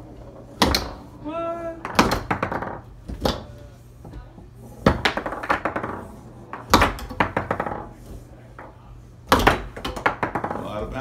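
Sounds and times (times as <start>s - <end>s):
foosball knocking against table: 0.0s - 1.2s, 1.8s - 11.0s.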